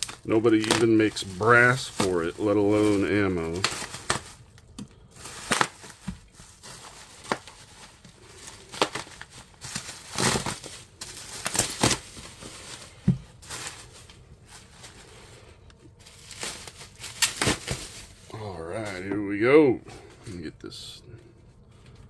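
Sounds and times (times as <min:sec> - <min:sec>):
bubble wrap crinkling: 0:00.0 - 0:19.4.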